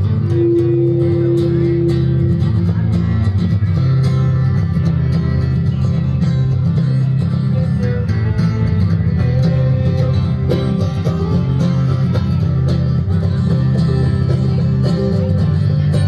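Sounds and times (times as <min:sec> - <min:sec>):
string band playing: 0:00.0 - 0:16.0.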